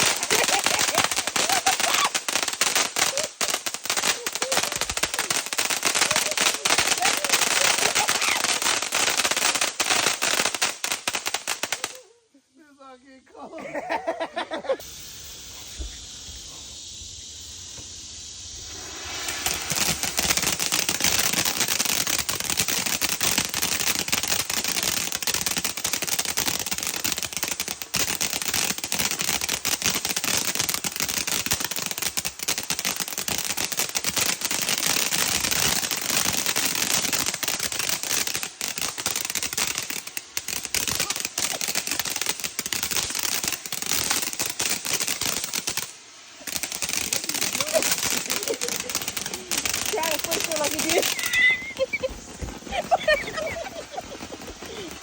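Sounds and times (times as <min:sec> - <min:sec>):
firecrackers crackling and popping: 0:00.0 - 0:12.1, 0:14.8 - 0:55.0
firework hissing: 0:00.0 - 0:12.1, 0:13.6 - 0:55.0.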